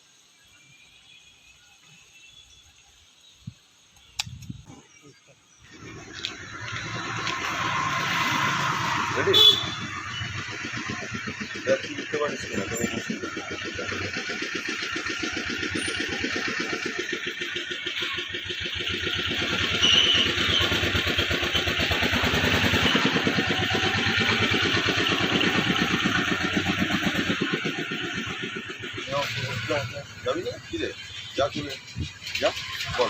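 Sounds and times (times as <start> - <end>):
small engine running: 5.6 - 33.0.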